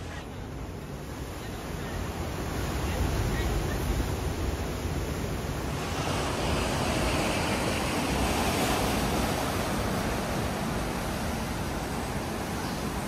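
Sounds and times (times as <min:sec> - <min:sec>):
waves breaking on rocks: 0:01.7 - 0:13.0.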